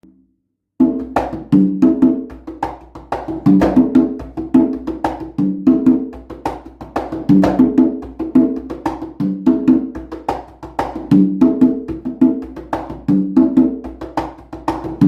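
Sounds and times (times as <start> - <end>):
hand drums played in a pattern: 0.8 - 15.0.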